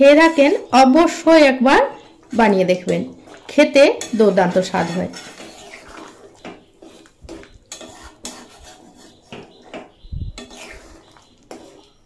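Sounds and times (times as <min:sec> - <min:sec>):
metal spatula scraping pan: 0:00.0 - 0:00.8, 0:02.0 - 0:12.0.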